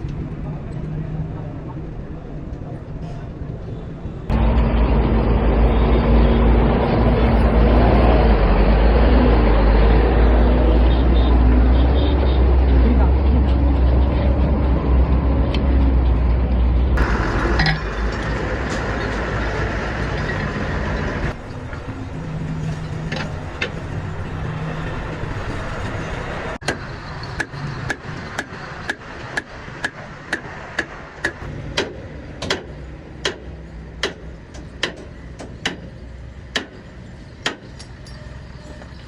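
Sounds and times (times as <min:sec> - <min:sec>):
engine low rumble: 0:00.0 - 0:39.0.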